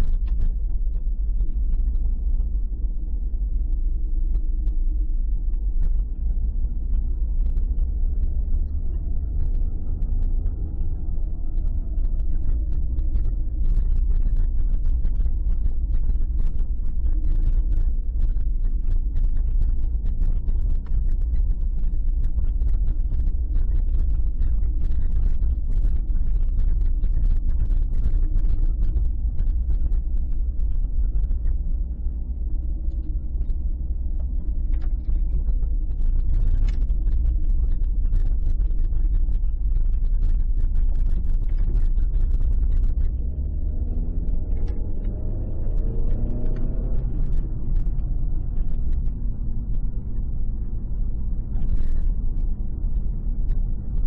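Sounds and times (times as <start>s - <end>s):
car engine and road rumble: 0.0s - 54.0s
faint ticks and rattles: 0.0s - 54.0s.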